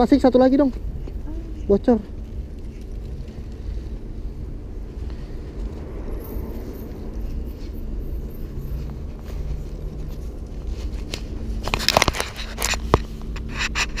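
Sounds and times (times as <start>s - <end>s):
low wind rumble: 0.0s - 14.0s
crinkly rustling and crackling: 0.6s - 14.0s.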